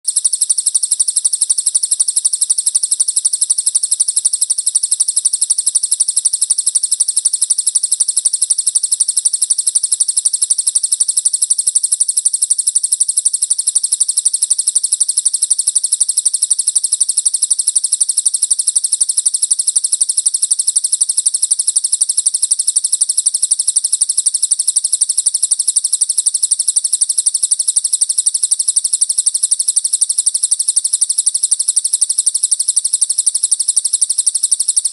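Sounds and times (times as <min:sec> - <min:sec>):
rapid high-pitched bird trill: 0:00.1 - 0:34.9.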